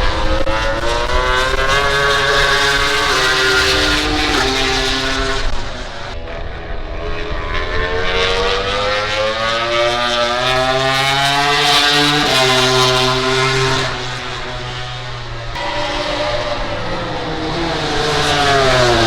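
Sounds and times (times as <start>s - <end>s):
racing motorcycle engine revving: 0.0s - 19.0s.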